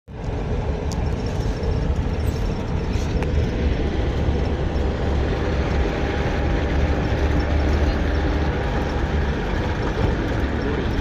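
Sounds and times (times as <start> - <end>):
low engine rumble: 0.1 - 11.0.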